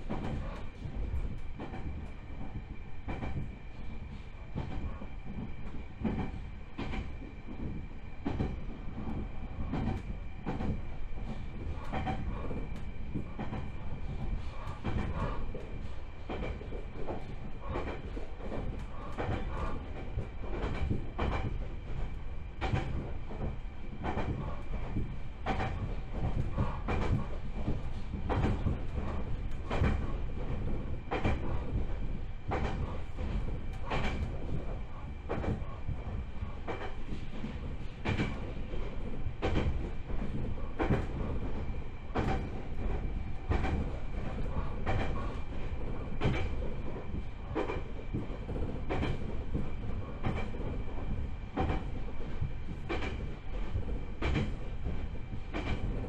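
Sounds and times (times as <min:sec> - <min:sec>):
train interior low rumble: 0:00.0 - 0:56.0.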